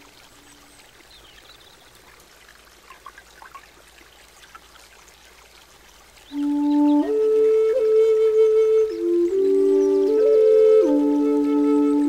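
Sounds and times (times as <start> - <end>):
water rushing down rock cascade: 0.0 - 12.0.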